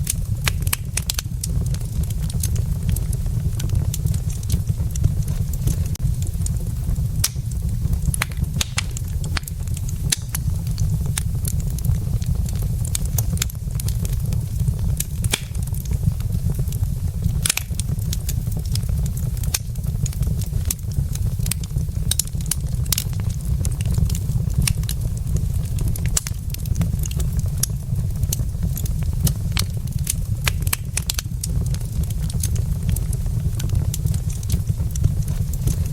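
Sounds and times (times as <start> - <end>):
fire low rumble: 0.0 - 35.9
fireplace logs crackling and popping: 0.0 - 35.9.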